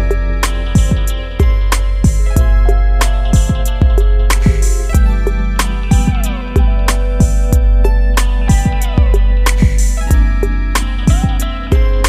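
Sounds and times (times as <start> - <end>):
deep kick drums beat: 0.0 - 12.0
plucked guitar: 0.0 - 12.0.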